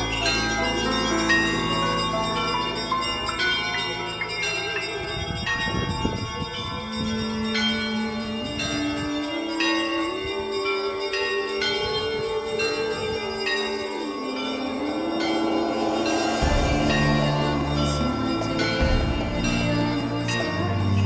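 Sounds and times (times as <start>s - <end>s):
church bells ringing: 0.0s - 21.0s
held low bell tone: 0.0s - 21.0s.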